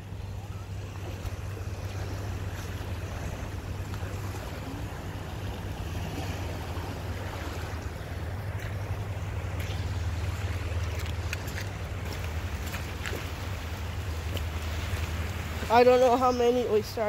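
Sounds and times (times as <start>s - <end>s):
faint water wash: 0.0s - 17.0s.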